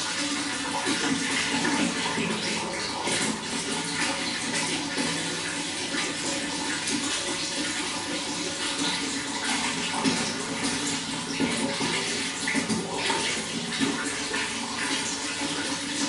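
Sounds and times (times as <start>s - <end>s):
running water flowing: 0.0s - 16.0s
water splashing and gurgling: 0.0s - 16.0s.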